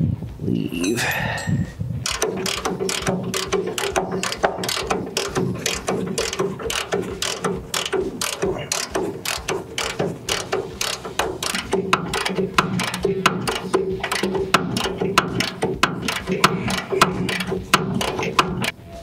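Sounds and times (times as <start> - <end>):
socket ratchet clicking: 2.0 - 18.8.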